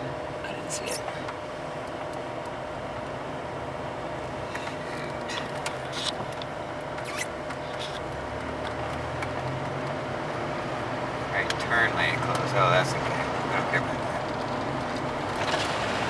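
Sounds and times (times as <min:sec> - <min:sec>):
car tyre and engine drone: 0:00.0 - 0:16.0.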